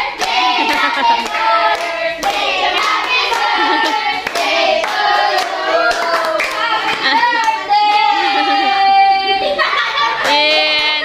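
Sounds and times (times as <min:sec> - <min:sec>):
people clapping along: 0:00.0 - 0:08.8, 0:10.0 - 0:11.0
group singing together: 0:00.0 - 0:11.0.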